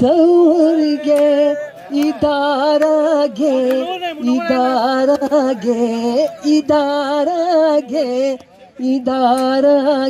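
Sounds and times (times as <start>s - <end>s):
man singing into a microphone: 0.0s - 10.0s.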